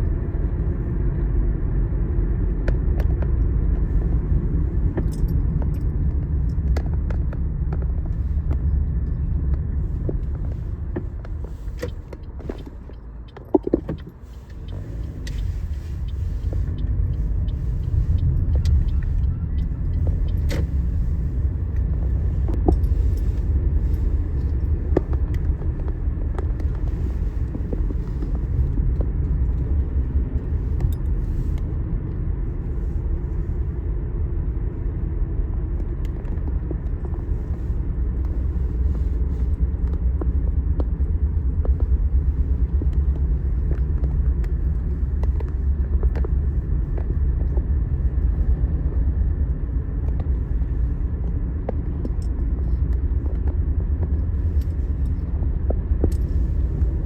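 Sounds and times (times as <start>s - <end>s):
road and engine noise inside car: 0.0s - 57.0s.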